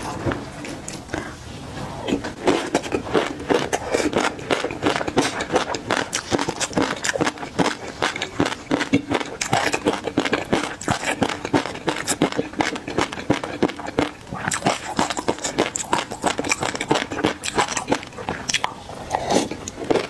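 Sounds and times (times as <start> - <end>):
wet chewing mouth clicks: 2.1 - 20.0.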